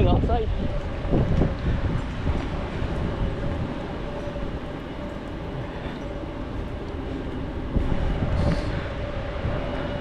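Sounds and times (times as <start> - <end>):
rain: 0.0 - 10.0
wind buffeting microphone: 0.0 - 10.0.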